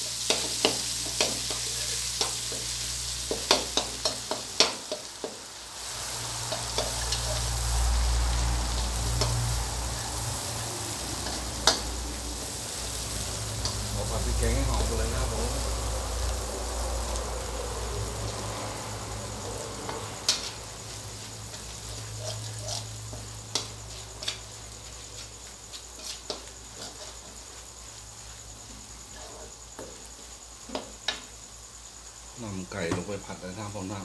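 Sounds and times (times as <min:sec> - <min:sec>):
spatula clicking and scraping wok: 0:00.0 - 0:31.5
curry paste sizzling in oil: 0:00.0 - 0:34.0.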